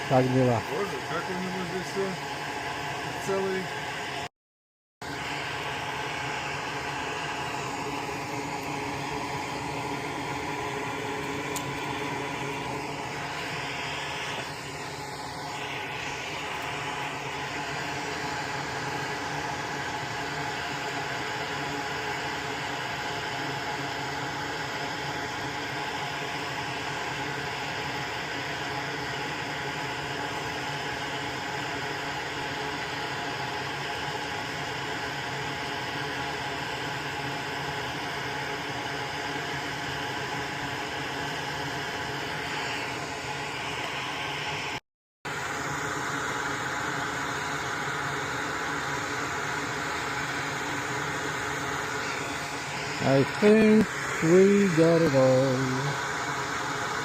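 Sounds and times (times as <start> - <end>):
fan or small motor whirring: 0.0 - 4.3, 5.0 - 57.0.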